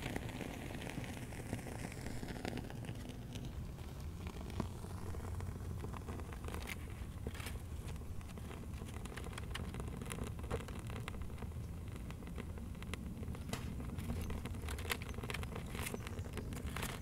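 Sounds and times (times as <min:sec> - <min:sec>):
kindling crackling and snapping: 0:00.0 - 0:17.0.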